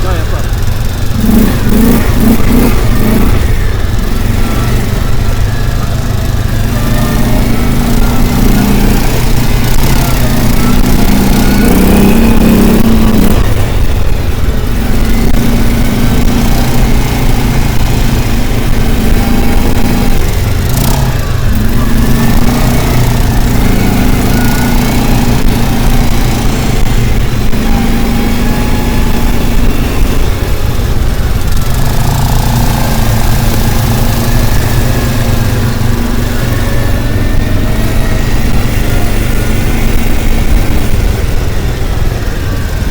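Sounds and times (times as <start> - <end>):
motor engine running loudly: 0.0 - 42.9.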